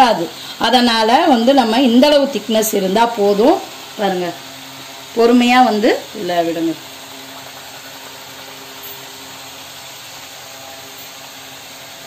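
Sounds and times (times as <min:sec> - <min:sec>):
faint steady hum: 0:00.0 - 0:12.0
hot oil sizzling: 0:00.0 - 0:12.0.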